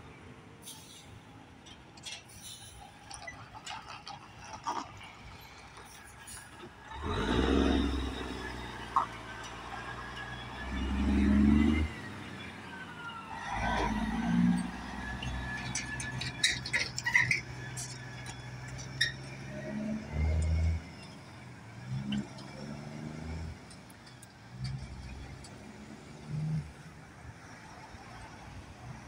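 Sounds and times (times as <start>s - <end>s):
diesel truck accelerating: 0.0s - 29.0s.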